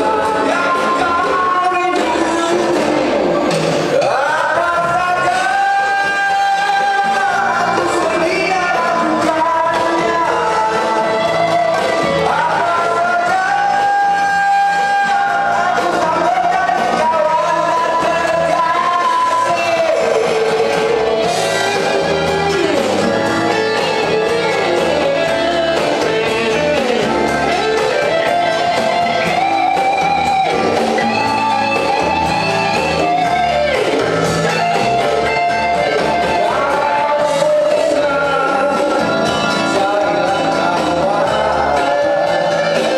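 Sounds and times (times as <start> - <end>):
backing music with guitar: 0.0 - 42.9
man singing into a microphone: 0.0 - 42.9.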